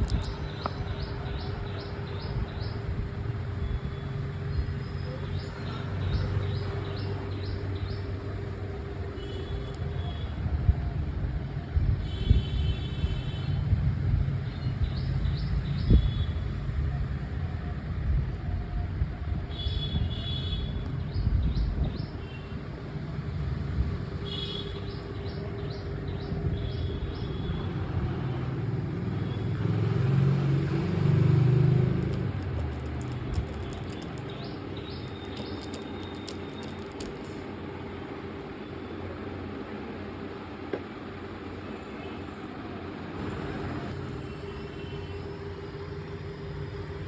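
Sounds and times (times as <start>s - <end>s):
low traffic rumble: 0.0s - 47.0s.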